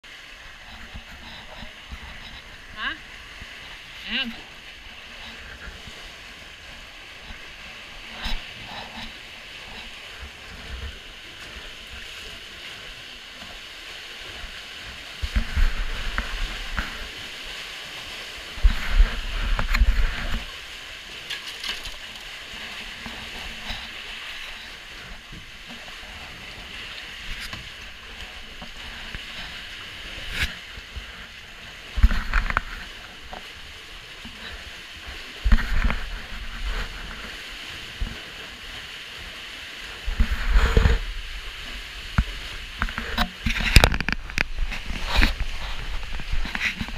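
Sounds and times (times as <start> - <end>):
water lapping around hull: 0.0 - 46.9
kayak paddle strokes: 0.1 - 46.9.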